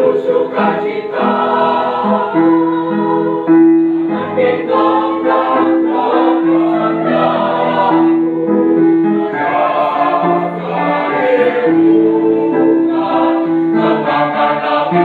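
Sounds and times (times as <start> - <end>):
choir singing in harmony: 0.0 - 15.0.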